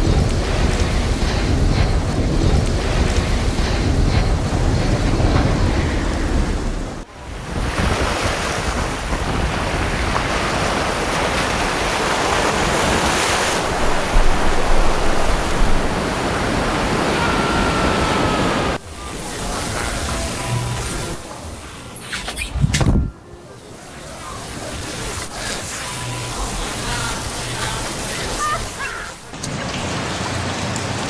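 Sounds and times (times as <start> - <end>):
wind rushing: 0.0 - 30.0
surging water: 0.0 - 31.0.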